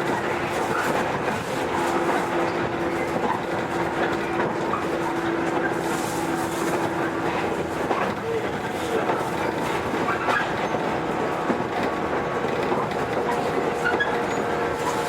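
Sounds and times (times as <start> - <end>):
steady train hum: 0.0 - 15.0
train wheels rumbling on rail: 0.0 - 15.0.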